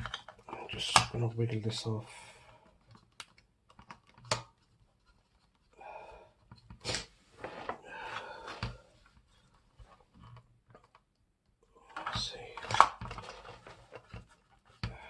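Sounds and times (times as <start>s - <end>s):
plastic parts scraping and rubbing: 0.0s - 1.7s, 2.5s - 5.8s, 6.4s - 11.1s, 11.8s - 15.0s.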